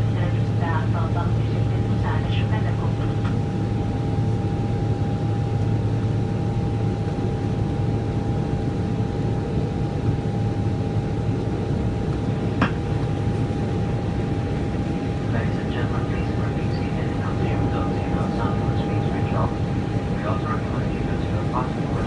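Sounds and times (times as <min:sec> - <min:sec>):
airplane cabin engine roar: 0:00.0 - 0:22.0.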